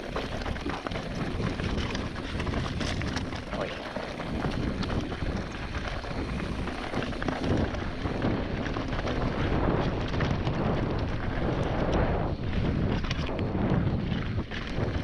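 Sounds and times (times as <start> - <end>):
bike knocks and rattles: 0.0 - 15.0
bike tyre noise: 0.0 - 15.0
wind rushing over microphone: 0.0 - 15.0.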